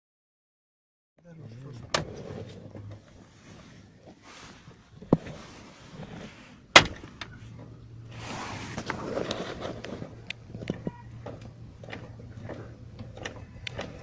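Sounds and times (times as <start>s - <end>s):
low steady hum: 1.3s - 14.0s.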